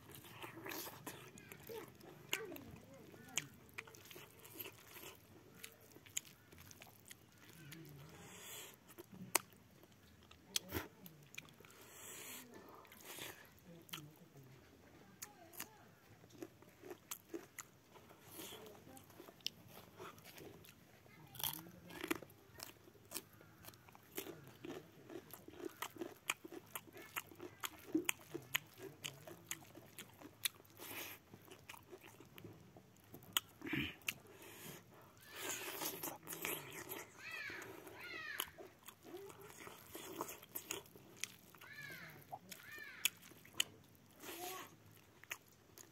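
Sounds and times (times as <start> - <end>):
man chewing with wet clicks: 0.0 - 14.5, 15.1 - 45.9.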